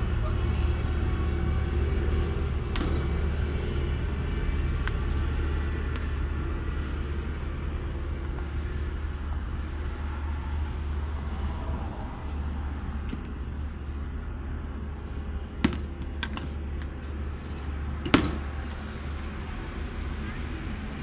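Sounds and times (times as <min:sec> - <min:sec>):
low rumbling hum: 0:00.0 - 0:21.0.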